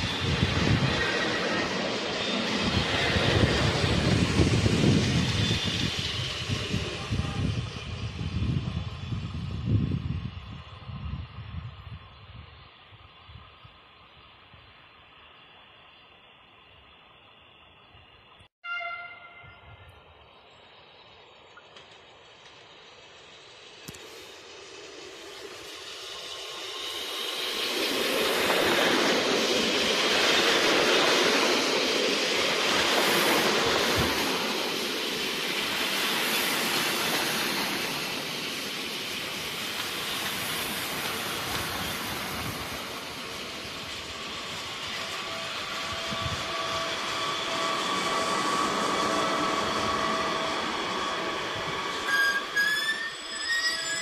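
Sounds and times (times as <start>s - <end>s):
train wheels on rails: 0.0s - 18.5s, 19.6s - 54.0s
locomotive whine: 0.0s - 54.0s.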